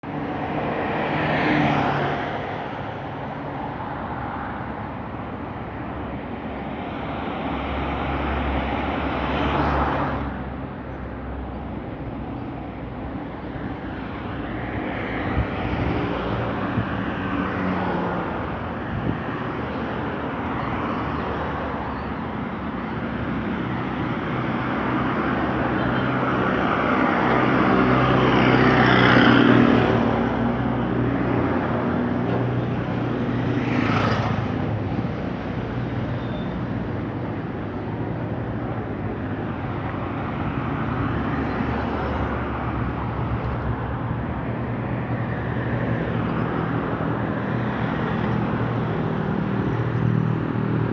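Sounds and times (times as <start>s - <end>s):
street traffic: 0.0s - 50.9s
vehicles passing: 0.0s - 50.9s.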